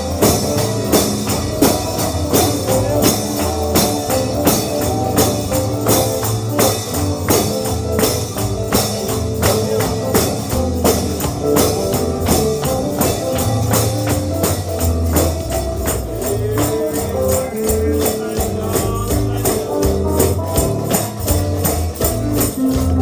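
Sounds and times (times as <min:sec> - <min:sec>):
bass notes: 0:00.0 - 0:23.0
tambourine beating fast rhythm: 0:00.0 - 0:23.0.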